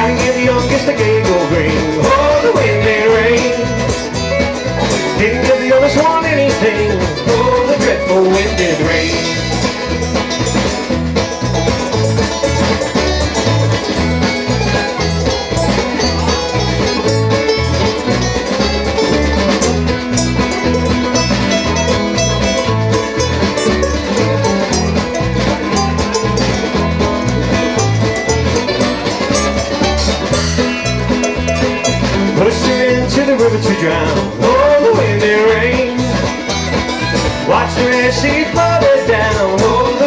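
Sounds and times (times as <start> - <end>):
bluegrass band playing: 0.0 - 40.0.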